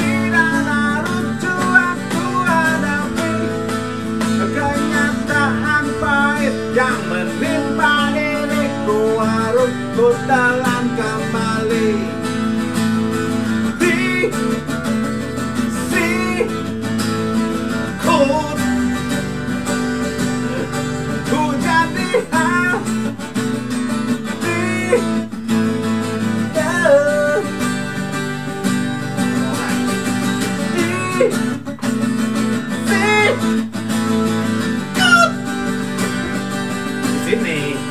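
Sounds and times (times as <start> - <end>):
acoustic guitar playing: 0.0 - 37.9.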